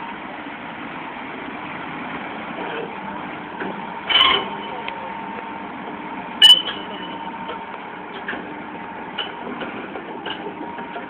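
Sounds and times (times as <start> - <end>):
heavy machinery humming: 0.0 - 11.0.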